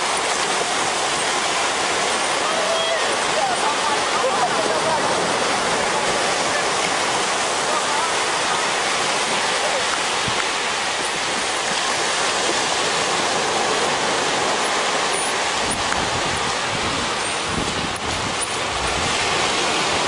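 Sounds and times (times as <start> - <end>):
surf breaking on a beach: 0.0 - 20.0.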